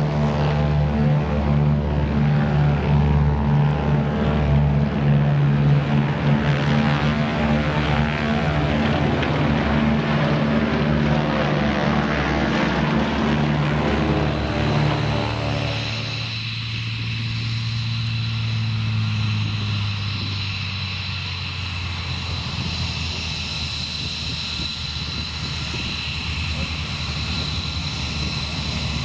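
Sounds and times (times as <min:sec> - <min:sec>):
propeller aircraft engines droning: 0:00.0 - 0:29.0.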